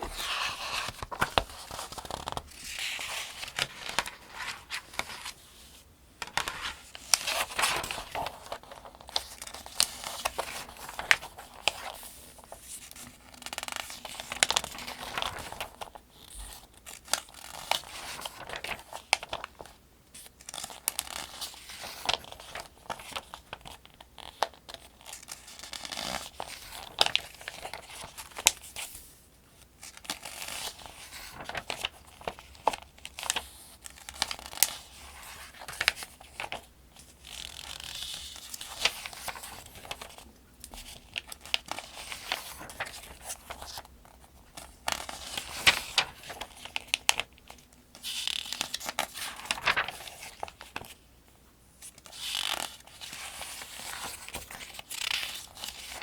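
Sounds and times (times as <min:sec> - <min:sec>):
paper pages turning: 0:00.0 - 0:19.7, 0:20.3 - 0:29.2, 0:29.8 - 0:51.0, 0:51.8 - 0:56.0.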